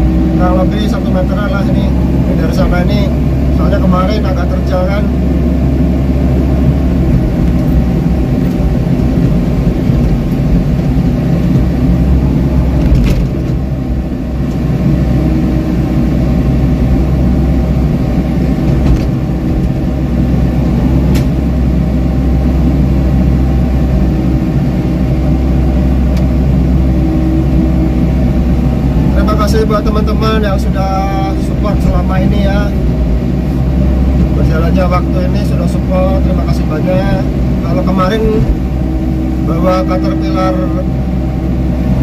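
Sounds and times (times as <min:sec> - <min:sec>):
diesel excavator engine running: 0:00.0 - 0:42.0.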